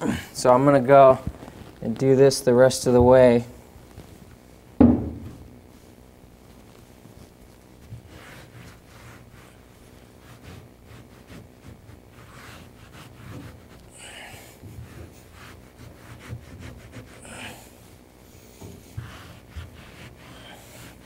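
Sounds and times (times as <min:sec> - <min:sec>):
carpet padding rubbing: 0:03.0 - 0:21.0.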